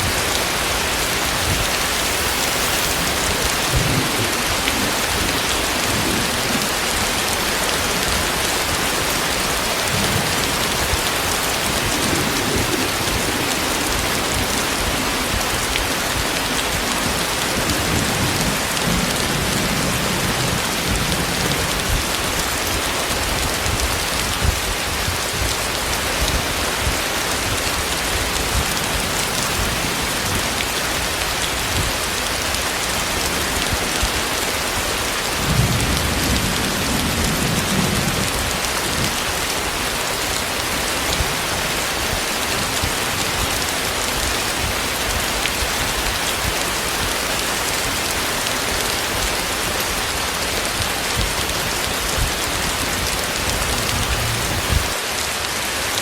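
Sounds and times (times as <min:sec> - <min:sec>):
low rumbles of thunder: 0:00.0 - 0:47.1, 0:50.6 - 0:55.0
heavy rain falling: 0:00.0 - 0:56.0.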